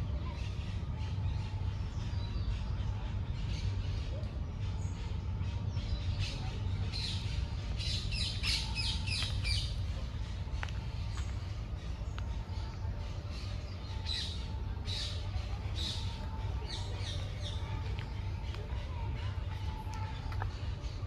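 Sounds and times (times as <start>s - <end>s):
birds chirping: 0.0s - 21.0s
low background rumble: 0.0s - 21.0s.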